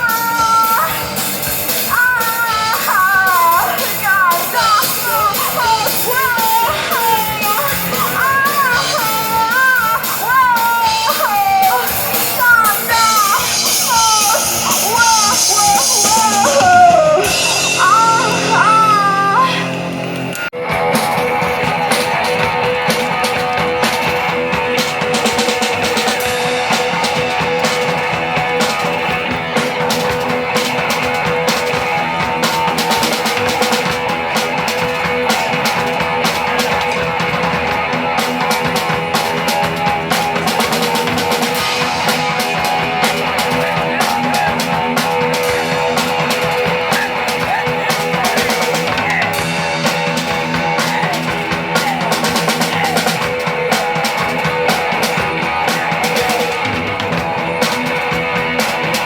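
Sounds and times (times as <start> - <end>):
distorted electric guitar: 0.0 - 59.0
pounding drum kit: 0.0 - 59.0.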